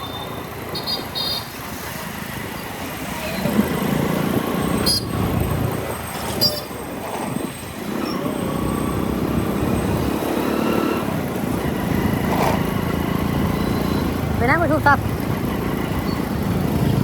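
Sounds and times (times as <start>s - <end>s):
motorcycle engine and road noise: 0.0s - 17.0s.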